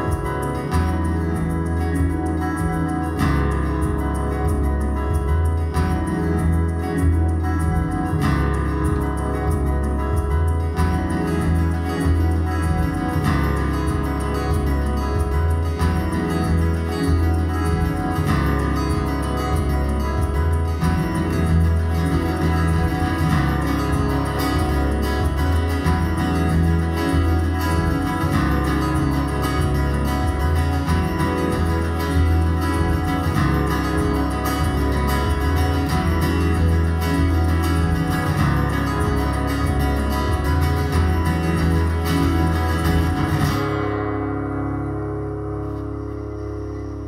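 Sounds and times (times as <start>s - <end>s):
acoustic guitar played fast: 0.0s - 47.0s
looped guitar with low drone: 0.0s - 47.0s.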